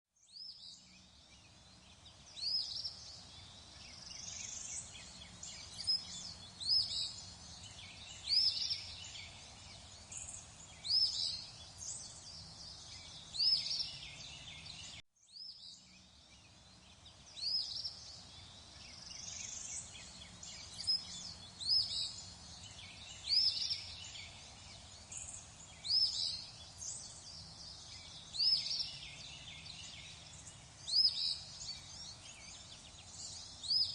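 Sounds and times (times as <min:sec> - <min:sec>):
faint background hiss: 0:00.2 - 0:33.9
birds chirping: 0:00.3 - 0:33.9.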